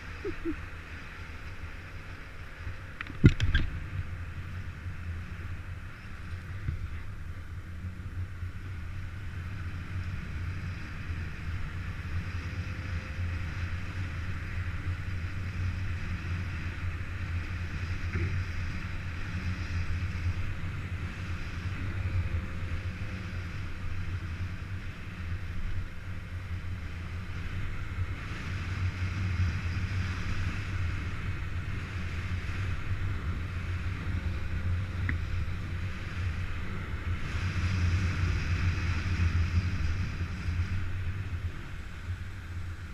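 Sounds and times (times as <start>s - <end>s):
wind rushing over microphone: 2.2s - 42.9s.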